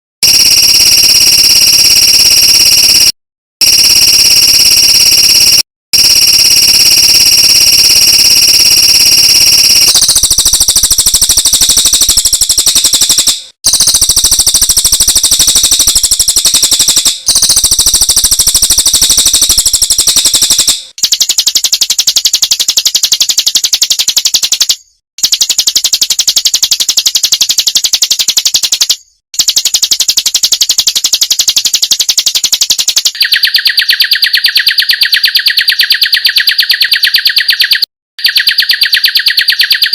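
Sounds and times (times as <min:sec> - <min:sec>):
rapid high-pitched bird trill: 0:00.2 - 0:03.1, 0:03.7 - 0:25.8, 0:30.5 - 0:39.9.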